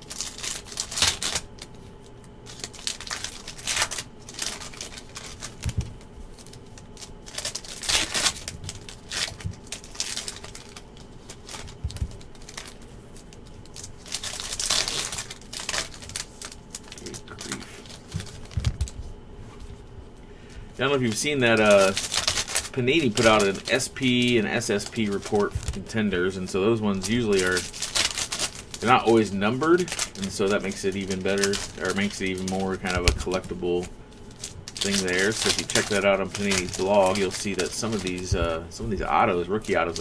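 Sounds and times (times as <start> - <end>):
foil packs crinkling and tearing: 0.0 - 19.1, 20.8 - 40.0.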